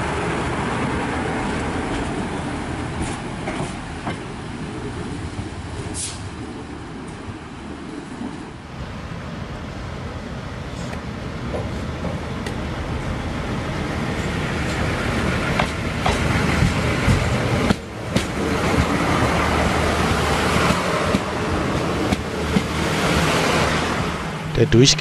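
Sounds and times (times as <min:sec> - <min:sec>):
wheels rumbling on rail: 0:00.0 - 0:24.6.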